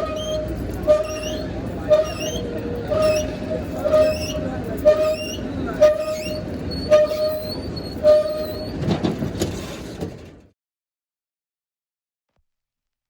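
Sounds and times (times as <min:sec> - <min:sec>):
train rumble: 0:00.0 - 0:10.5.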